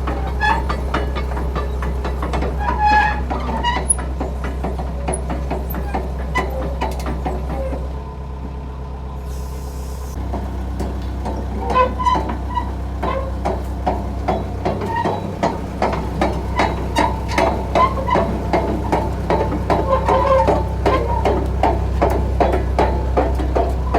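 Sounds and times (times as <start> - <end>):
rapid metallic clanks: 0.0 - 7.9, 10.3 - 23.9
excavator diesel engine running: 0.0 - 23.9.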